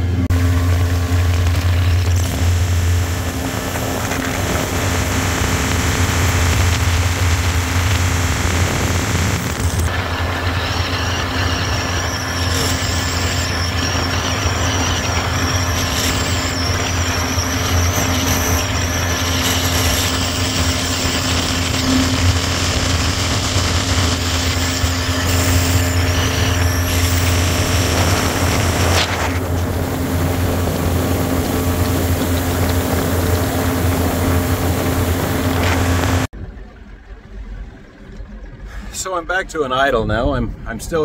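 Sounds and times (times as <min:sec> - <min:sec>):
outboard motor running at high speed: 0:00.0 - 0:39.4.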